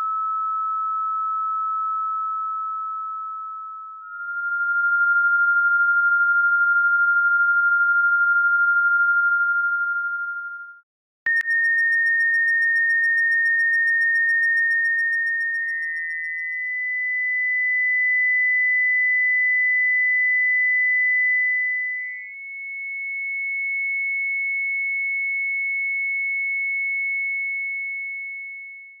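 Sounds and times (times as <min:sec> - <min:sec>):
electronic sine tones: 0:00.0 - 0:23.6.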